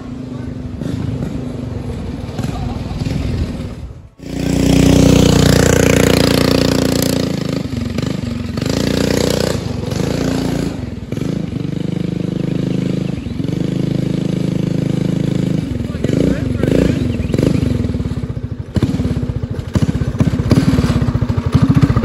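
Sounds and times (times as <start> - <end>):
small engine revving hard: 2.4 - 22.0.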